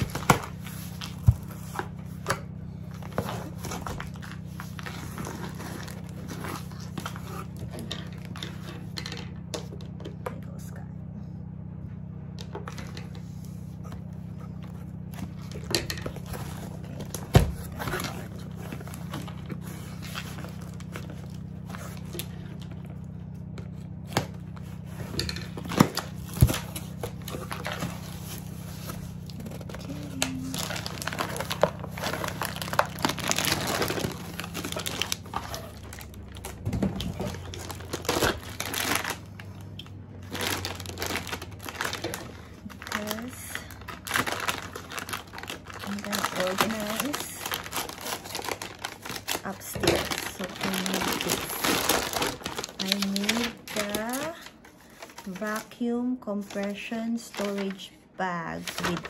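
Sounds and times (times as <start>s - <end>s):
packing tape tearing: 0.0s - 9.0s, 15.0s - 22.9s, 23.9s - 55.6s, 58.6s - 59.0s
plastic packaging crinkling: 0.0s - 9.9s, 12.6s - 59.0s
low hum: 0.0s - 59.0s.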